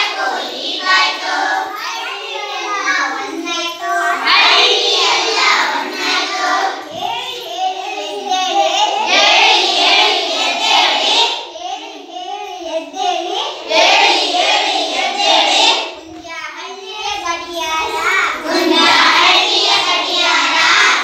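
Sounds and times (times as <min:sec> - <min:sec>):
children singing together: 0:00.0 - 0:21.0.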